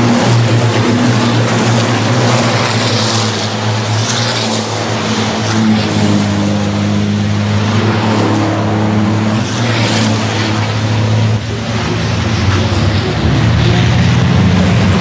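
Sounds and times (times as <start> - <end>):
race truck engines droning: 0.0 - 15.0.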